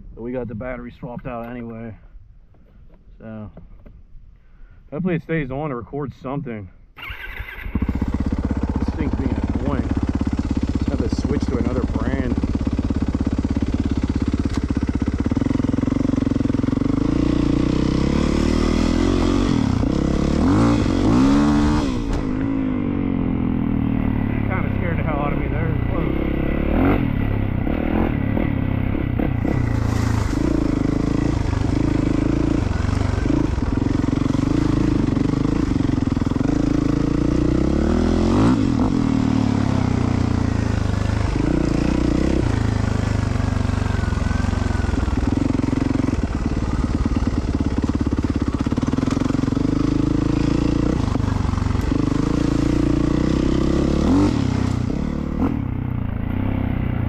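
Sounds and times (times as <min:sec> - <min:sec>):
dirt bike engine revving: 0:07.0 - 0:57.0.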